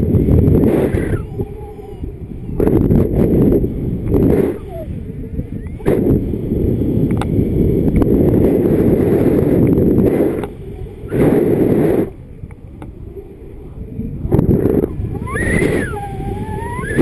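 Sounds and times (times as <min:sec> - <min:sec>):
wind gusting over microphone: 0:00.0 - 0:17.0.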